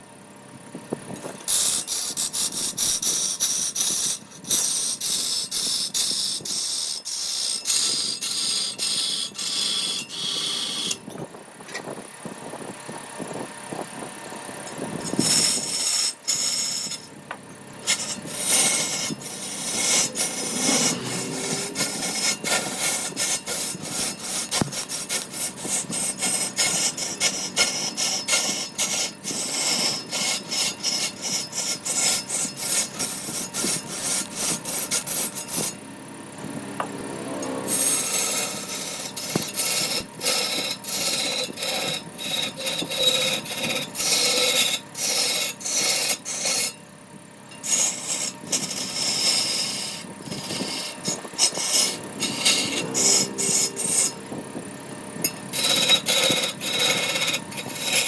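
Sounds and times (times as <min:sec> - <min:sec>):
hand tool rasping wood: 0:01.4 - 0:11.2, 0:14.7 - 0:17.2, 0:17.8 - 0:35.8, 0:37.4 - 0:46.9, 0:47.5 - 0:58.0.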